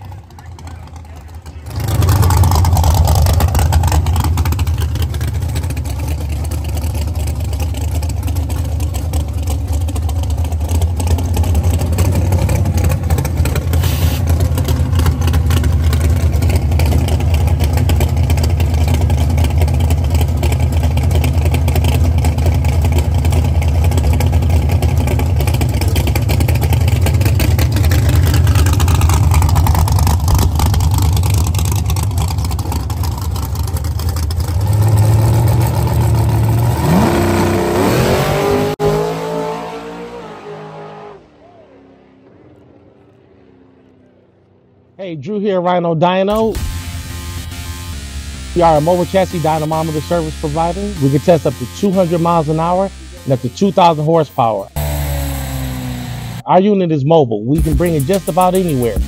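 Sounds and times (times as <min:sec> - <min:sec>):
race car engine idling: 0:00.0 - 0:36.7, 0:46.3 - 0:56.5, 0:57.6 - 0:59.0.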